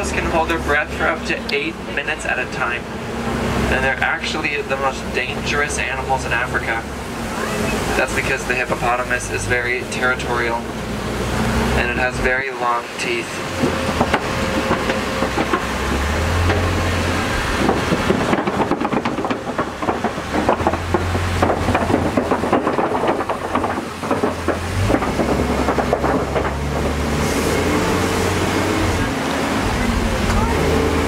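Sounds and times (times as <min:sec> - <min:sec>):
truck engine running: 0:00.0 - 0:31.0
vehicle rattling and knocking: 0:00.0 - 0:31.0.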